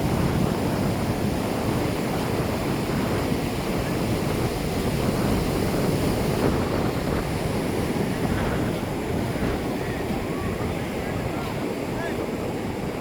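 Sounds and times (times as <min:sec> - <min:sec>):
ocean surf on a beach: 0:00.0 - 0:13.0
wind rumbling on microphone: 0:00.0 - 0:13.0.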